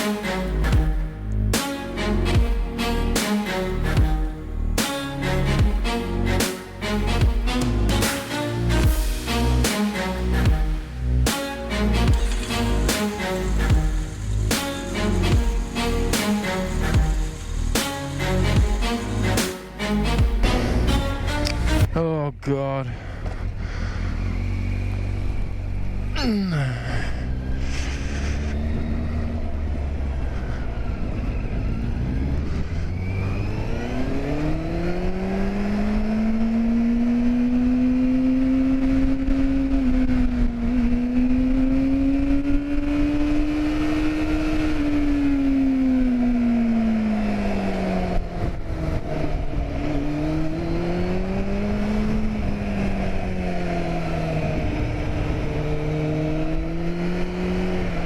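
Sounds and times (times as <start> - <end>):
vehicle engine revving: 0.0 - 21.9, 23.2 - 26.2, 26.9 - 58.0.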